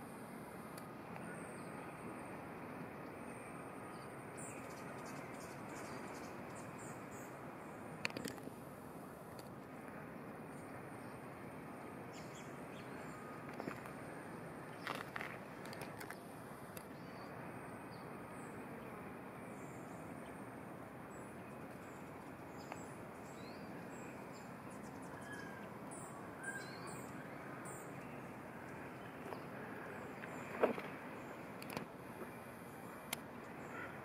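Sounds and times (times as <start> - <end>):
outdoor background hum: 0.0 - 34.0.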